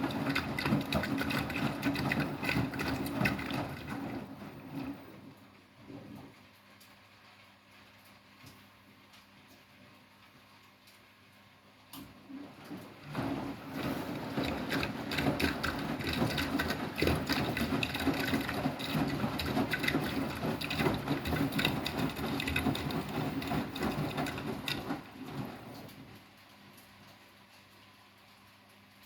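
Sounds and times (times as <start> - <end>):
washing machine clicking and rattling: 0.0 - 7.0, 12.0 - 29.0.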